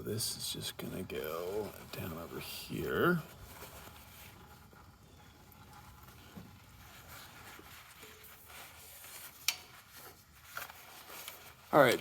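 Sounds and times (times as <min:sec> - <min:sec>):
soft handling rustling: 0:00.0 - 0:12.0.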